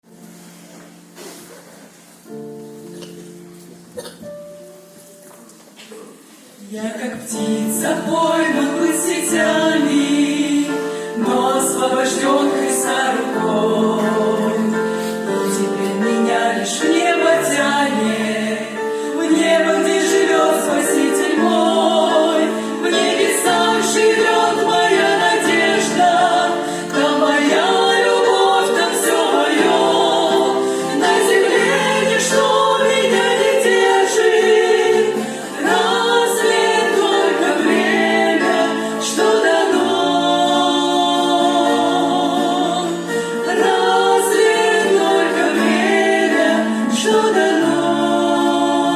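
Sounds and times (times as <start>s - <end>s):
choir singing in harmony: 6.6s - 48.9s.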